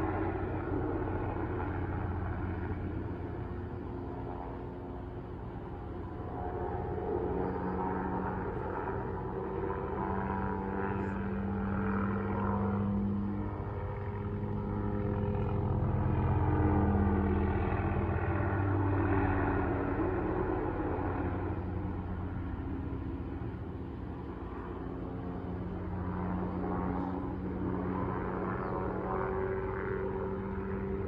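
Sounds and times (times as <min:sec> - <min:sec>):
helicopter rotor and engine drone: 0:00.0 - 0:31.0.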